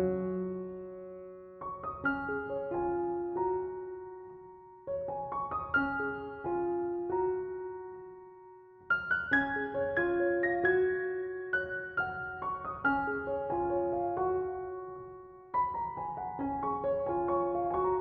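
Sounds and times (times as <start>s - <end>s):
soft piano playing: 0.0s - 18.0s.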